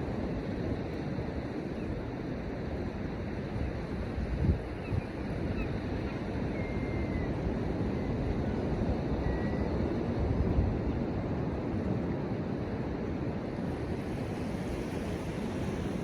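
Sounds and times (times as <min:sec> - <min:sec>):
surf rushing on shore: 0:00.0 - 0:16.0
wind on microphone: 0:00.0 - 0:16.0.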